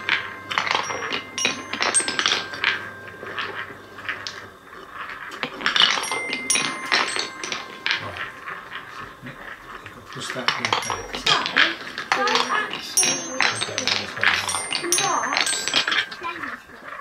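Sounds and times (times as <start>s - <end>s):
ringing sound bar notes: 0.0s - 17.0s
wooden balls clattering: 0.0s - 17.0s.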